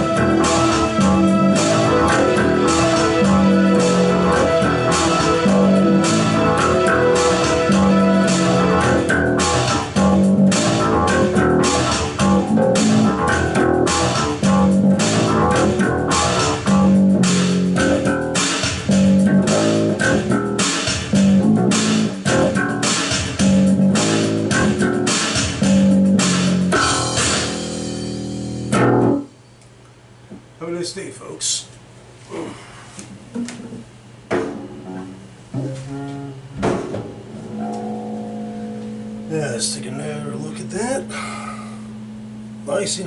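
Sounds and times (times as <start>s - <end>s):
electric bass guitar riff: 0.0s - 29.4s, 34.5s - 43.0s
music with steady beat: 0.0s - 29.4s, 34.4s - 39.6s, 41.8s - 43.0s.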